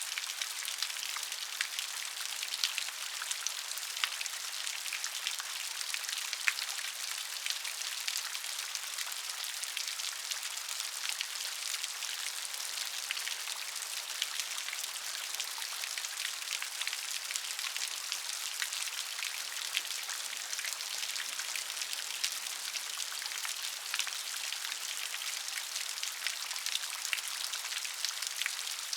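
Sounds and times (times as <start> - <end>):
rain dripping on hard surface: 0.0 - 28.9.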